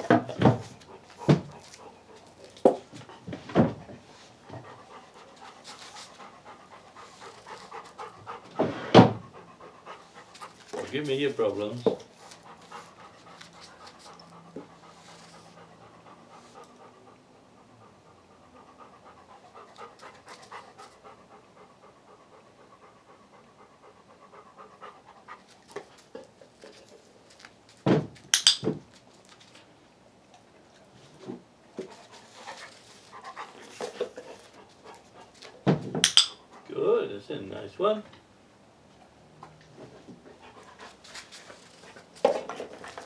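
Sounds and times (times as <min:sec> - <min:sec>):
dog panting: 0:00.1 - 0:27.4, 0:31.7 - 0:35.7, 0:36.3 - 0:36.9, 0:39.8 - 0:43.0.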